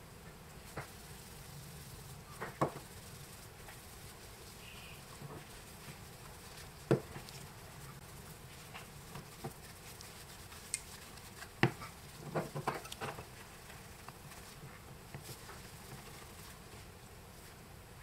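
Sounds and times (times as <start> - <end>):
cloth rubbing handset: 0.8 - 17.6.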